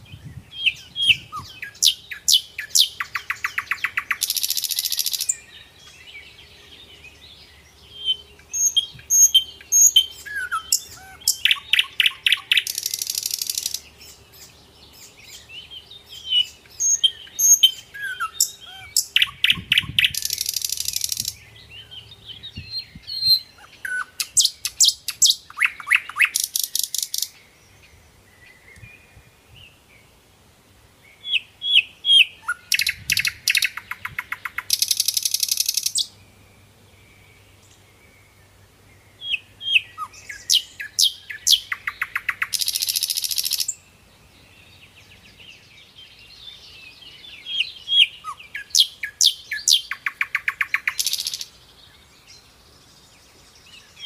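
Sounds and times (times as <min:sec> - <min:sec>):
songbird trilling: 0:00.0 - 0:29.0, 0:31.2 - 0:37.8, 0:39.2 - 0:43.9, 0:44.6 - 0:52.4.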